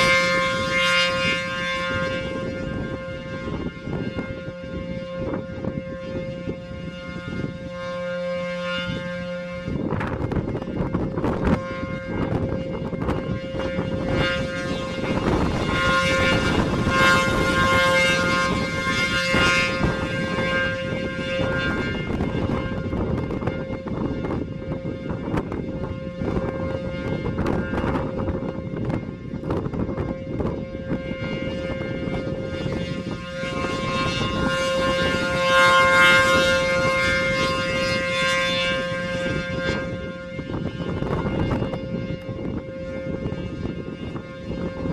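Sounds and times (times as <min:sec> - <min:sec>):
siren alert tone: 0:00.0 - 0:44.9
wind buffeting microphone: 0:00.0 - 0:44.9.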